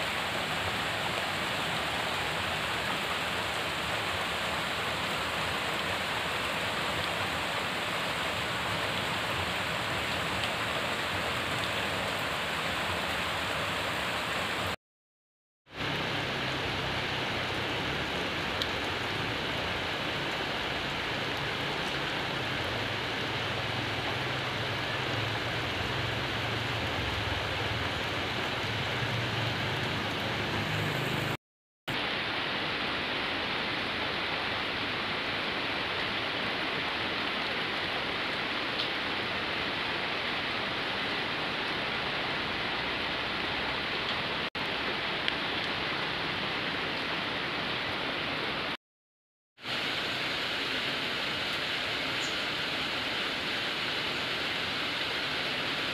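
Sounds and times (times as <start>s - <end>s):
steady rain hiss: 0.0s - 14.8s, 15.7s - 31.4s, 32.0s - 48.8s, 49.6s - 55.9s.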